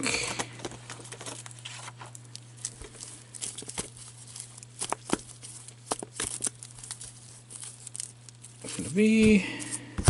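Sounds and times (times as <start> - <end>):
packaging crinkling: 0.1 - 10.0.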